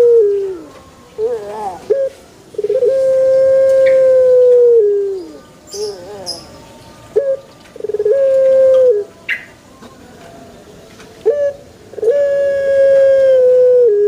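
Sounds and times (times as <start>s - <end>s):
dove cooing: 0.0s - 6.5s, 7.1s - 9.5s, 11.2s - 14.0s.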